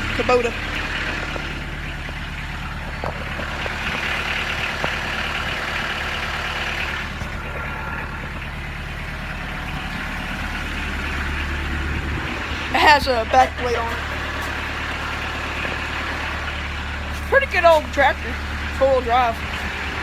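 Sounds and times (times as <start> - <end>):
diesel tractor engine idling: 0.0 - 20.0.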